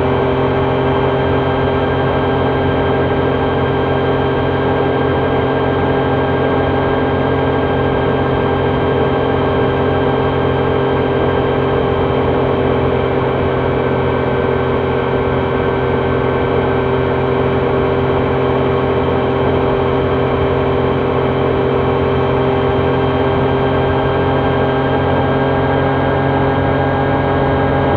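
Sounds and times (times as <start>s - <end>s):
motorcycle engine running steadily: 0.0s - 27.9s.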